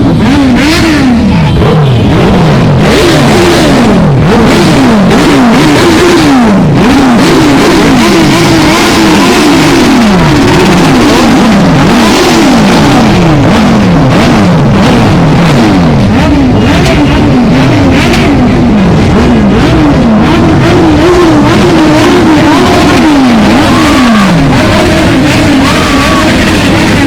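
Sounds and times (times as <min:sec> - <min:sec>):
vehicle engines revving: 0:00.0 - 0:27.0.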